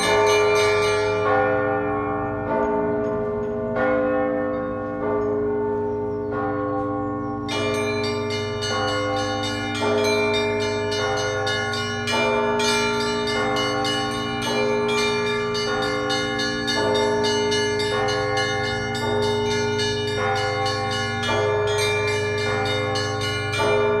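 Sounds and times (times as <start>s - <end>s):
large bells ringing: 0.0s - 24.0s.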